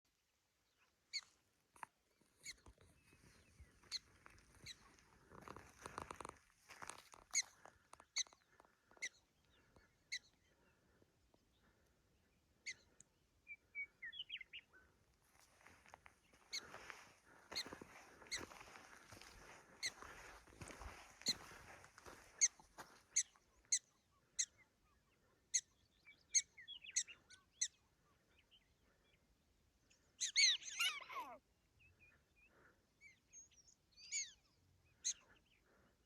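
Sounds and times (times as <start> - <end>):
prairie dogs barking calls: 2.3 - 36.0.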